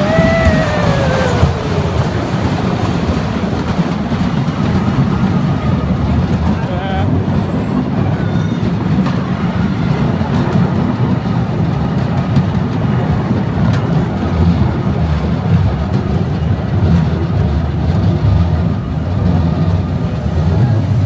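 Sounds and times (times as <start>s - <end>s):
roller coaster wheels rumbling: 0.0s - 21.0s.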